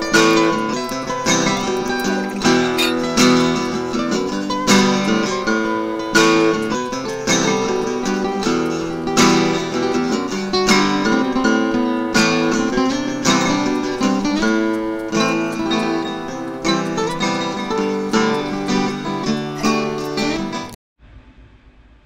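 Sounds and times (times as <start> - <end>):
acoustic guitar strumming chords: 0.0 - 20.8.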